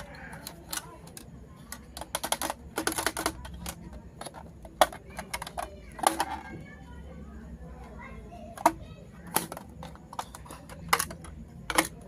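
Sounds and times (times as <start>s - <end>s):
plastic toy pieces clicking: 0.0s - 6.8s, 8.4s - 12.0s.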